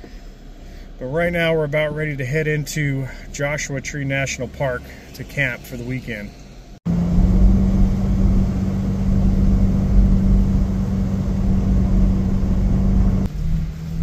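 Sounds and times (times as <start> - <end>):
tyre and engine rumble: 0.0 - 14.0.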